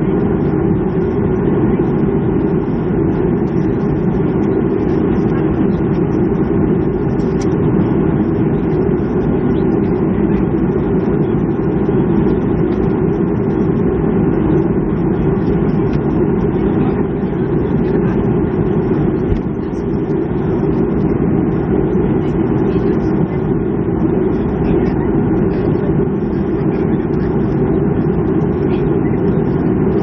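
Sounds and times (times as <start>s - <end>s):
airliner cabin engine drone: 0.0s - 30.0s.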